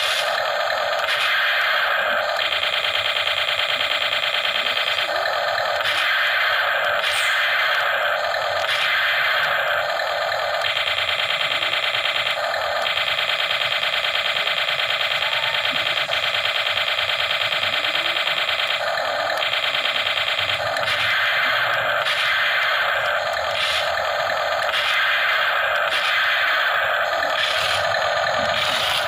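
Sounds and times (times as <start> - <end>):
tinny pulsing electronic buzz: 0.0 - 29.0.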